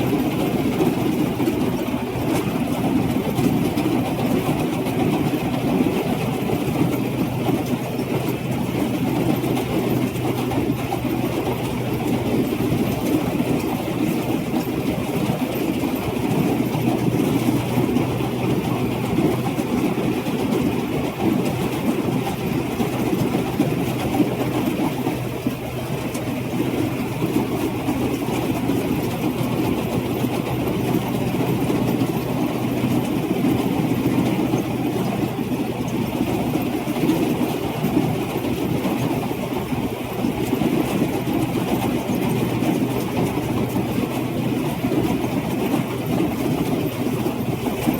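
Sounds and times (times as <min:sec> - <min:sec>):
harvesting machinery rattling: 0:00.0 - 0:47.9.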